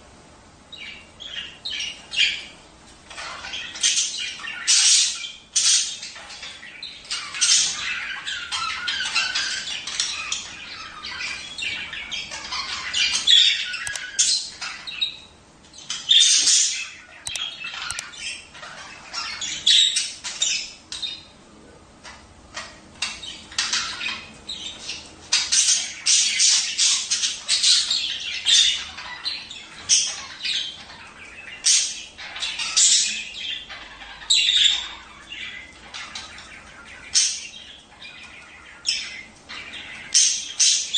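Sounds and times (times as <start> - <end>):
budgerigars chattering: 0.8 - 21.4, 22.5 - 40.9.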